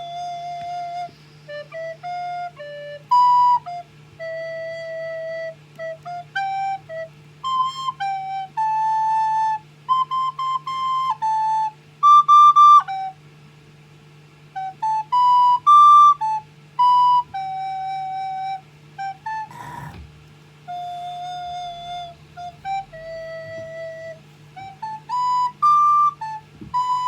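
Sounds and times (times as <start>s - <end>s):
child playing recorder: 0.0s - 13.2s, 14.5s - 20.0s, 20.6s - 27.0s.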